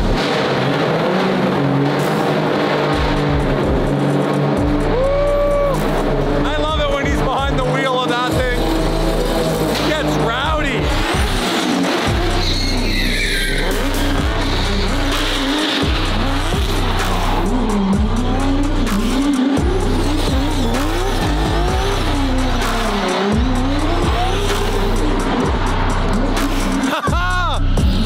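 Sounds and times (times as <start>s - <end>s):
car engine revving: 0.0s - 28.0s
tyres screeching: 4.9s - 28.0s.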